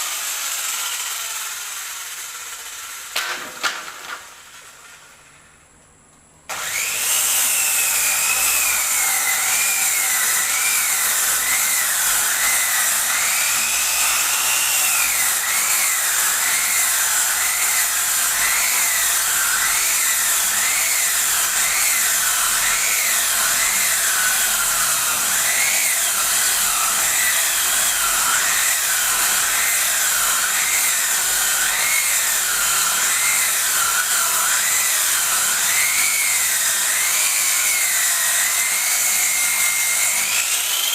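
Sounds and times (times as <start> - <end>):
circular saw cutting wood: 0.0 - 5.2, 6.5 - 40.9.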